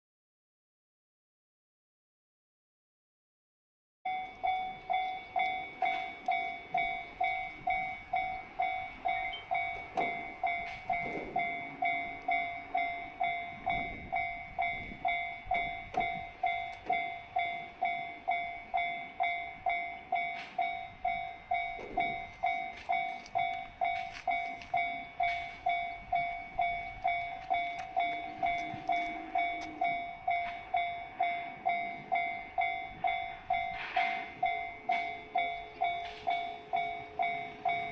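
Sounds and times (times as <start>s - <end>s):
level crossing bell ringing: 4.1s - 37.9s.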